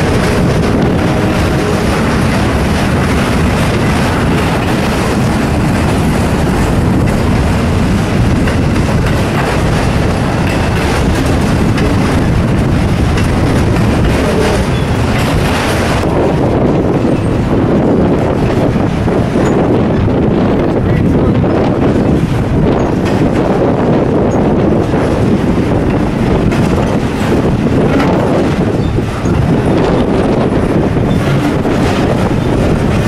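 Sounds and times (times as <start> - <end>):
train wheels clacking on rails: 0.0 - 33.0.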